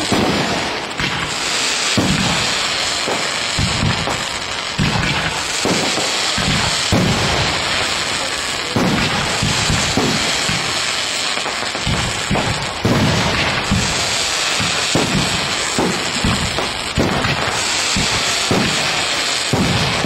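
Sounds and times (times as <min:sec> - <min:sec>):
continuous hiss: 0:00.0 - 0:20.0
firework bursts and booms: 0:00.0 - 0:20.0.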